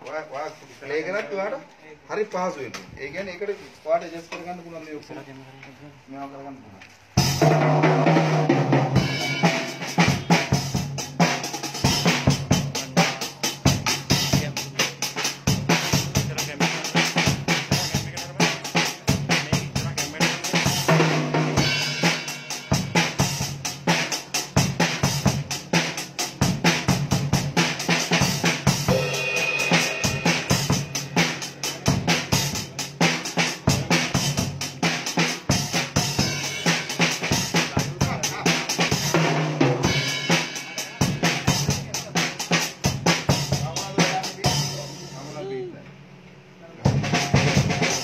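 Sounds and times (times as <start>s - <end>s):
drum kit played fast: 7.1s - 48.0s.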